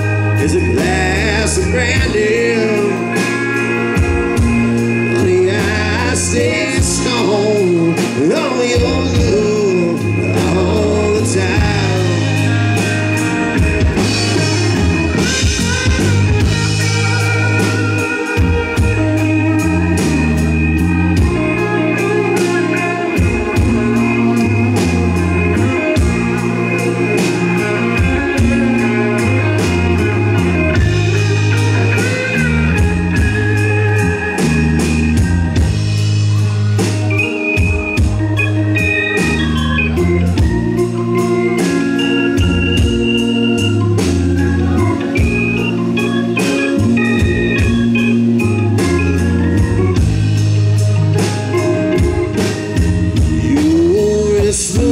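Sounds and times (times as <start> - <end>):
drum kit beat: 0.0 - 54.9
electric bass: 0.0 - 54.9
electric guitar: 0.0 - 54.9
organ keyboard chords: 0.0 - 54.9.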